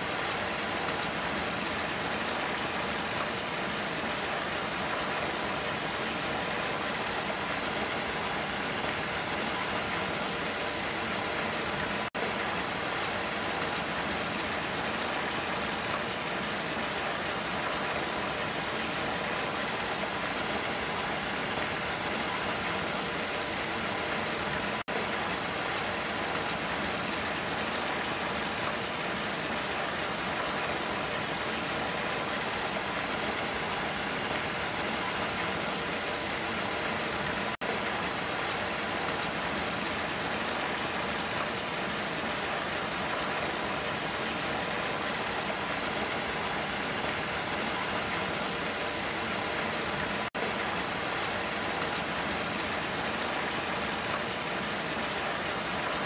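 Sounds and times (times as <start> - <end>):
water pouring over cascade: 0.0 - 56.0.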